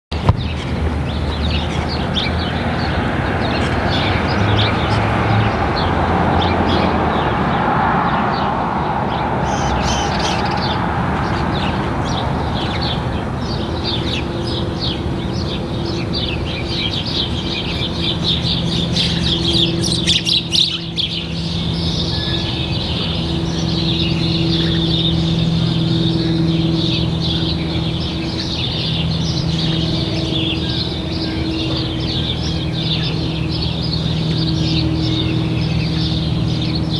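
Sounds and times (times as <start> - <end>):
small birds chirping: 0.1 - 7.6, 8.3 - 36.9
broad rushing noise: 0.1 - 36.9
distant propeller plane droning: 0.1 - 36.9.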